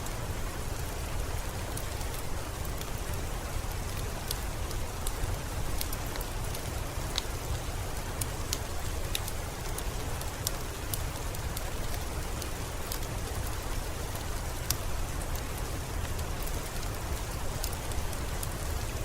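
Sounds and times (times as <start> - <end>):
raindrops ticking close by: 0.0 - 19.0
steady rain hiss: 0.0 - 19.0.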